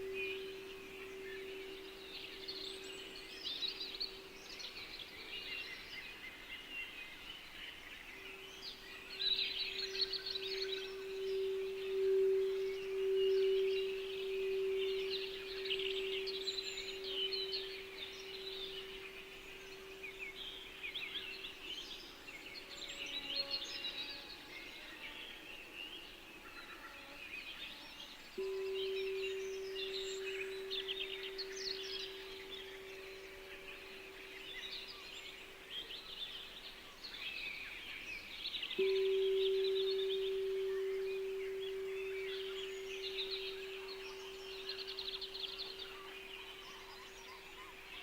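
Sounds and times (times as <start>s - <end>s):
singing bowl ringing: 0.0s - 6.2s, 8.2s - 27.0s, 27.6s - 36.1s, 38.8s - 48.0s
songbirds chirping: 0.0s - 48.0s.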